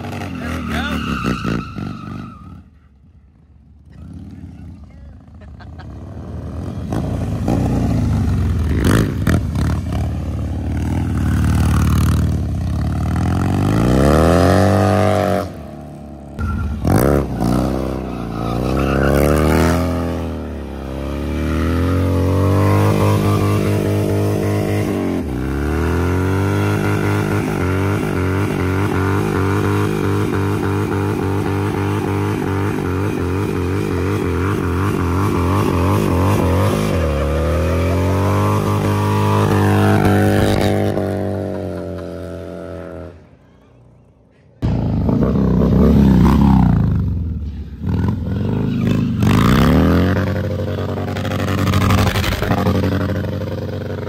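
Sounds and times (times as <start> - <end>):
motorcycle engine revving: 3.8 - 43.4, 44.6 - 54.0.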